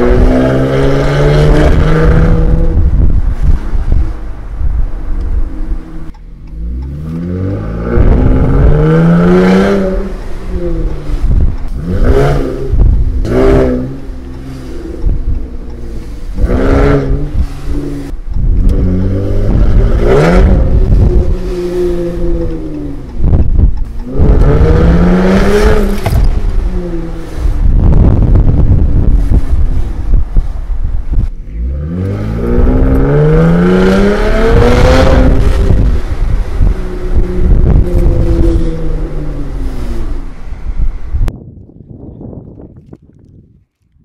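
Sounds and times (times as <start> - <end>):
truck exhaust revving: 0.0 - 41.3.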